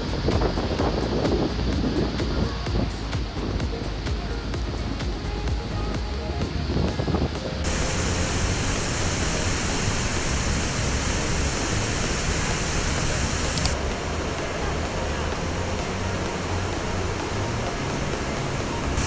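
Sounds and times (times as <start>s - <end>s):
turbulent water rushing: 0.0s - 19.0s.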